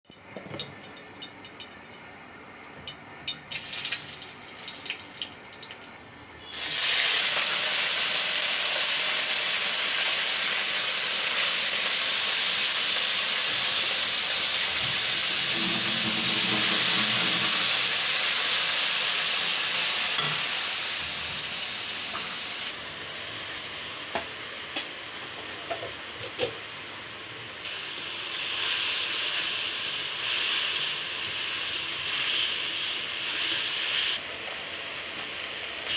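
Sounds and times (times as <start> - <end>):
food sizzling in hot oil: 3.3 - 5.8, 6.4 - 35.9.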